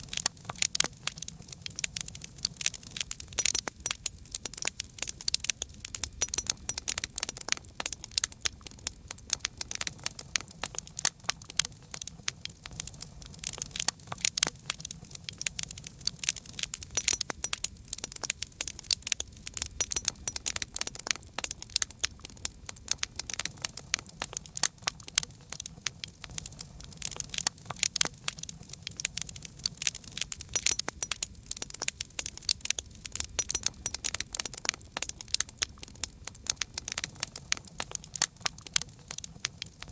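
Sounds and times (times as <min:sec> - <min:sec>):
campfire pops and snaps: 0:00.0 - 0:39.9
low rumble of flame: 0:00.0 - 0:39.9.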